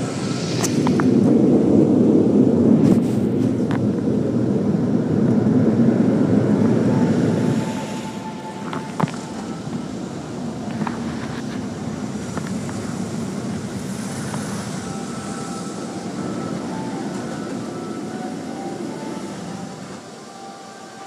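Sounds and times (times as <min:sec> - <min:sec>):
car wash machinery rumble: 0:00.0 - 0:21.0.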